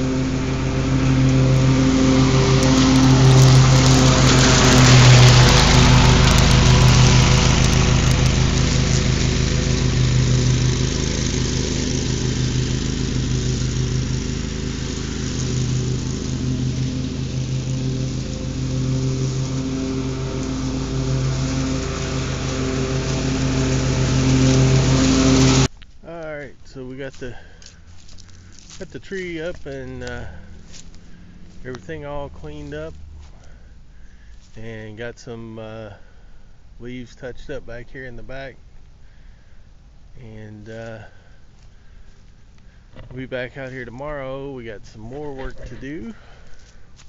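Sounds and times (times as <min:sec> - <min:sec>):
mower mulching leaves: 0:00.0 - 0:47.0.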